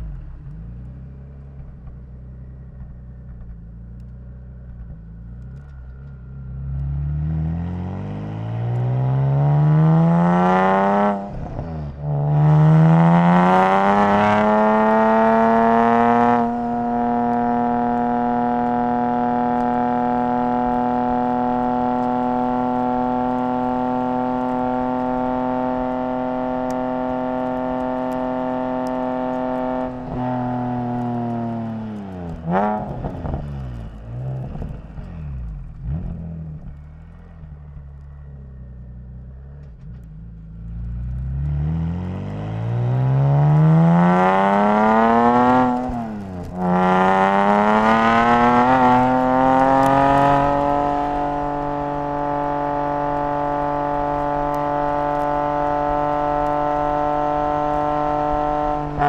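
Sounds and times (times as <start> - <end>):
car engine revving: 4.6 - 59.0.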